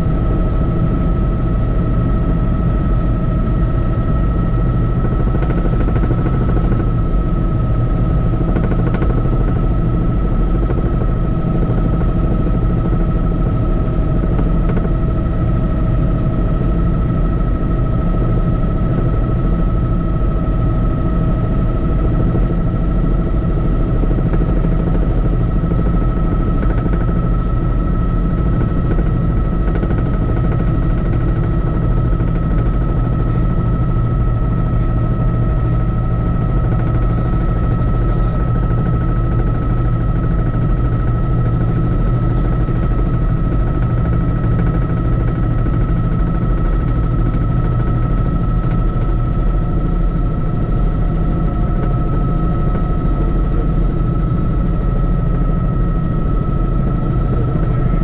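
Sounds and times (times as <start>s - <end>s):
helicopter in flight: 0.0s - 58.0s.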